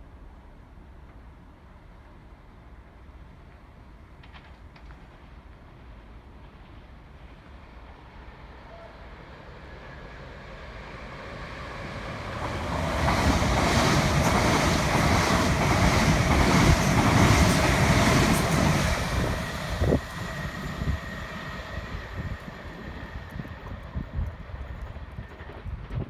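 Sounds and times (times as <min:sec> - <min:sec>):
electric train passing at speed: 0:05.1 - 0:26.0.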